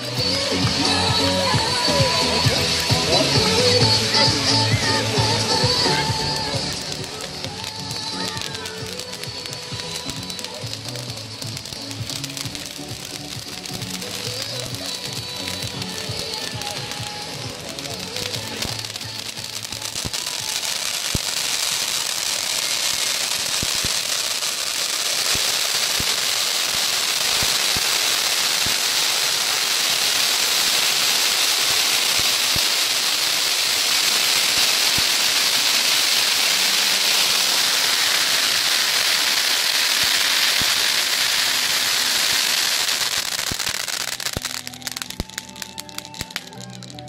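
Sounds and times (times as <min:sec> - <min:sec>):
firework sparks crackling: 0:00.0 - 0:47.0
fountain fireworks hissing: 0:00.0 - 0:47.0.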